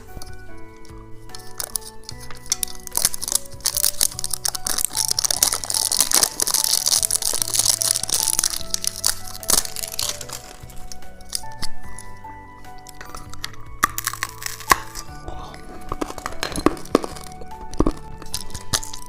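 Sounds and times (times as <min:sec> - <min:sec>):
candy wrapper crinkling: 0:00.0 - 0:19.0
soft background music: 0:00.0 - 0:19.0.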